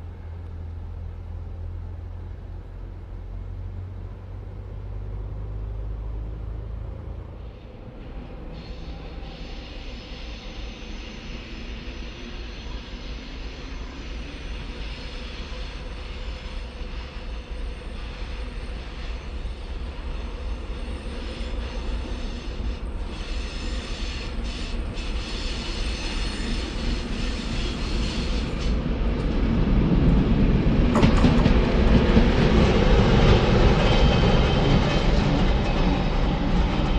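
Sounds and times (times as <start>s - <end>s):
train rumbling: 0.0s - 36.9s.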